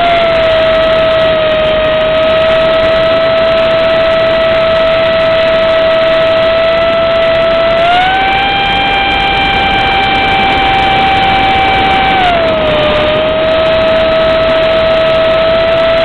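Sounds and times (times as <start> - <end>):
electric ducted fan whining: 0.0 - 16.0.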